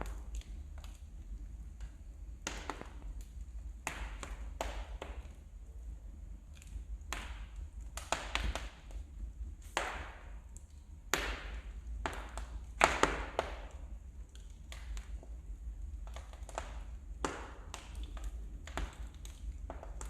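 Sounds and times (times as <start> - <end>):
low steady rumble: 0.0 - 20.0
wood fire crackling and popping: 0.0 - 20.0.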